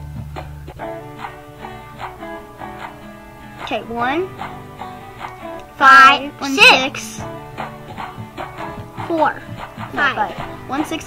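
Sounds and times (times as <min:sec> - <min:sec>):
plucked string music with beat: 0:00.0 - 0:11.0.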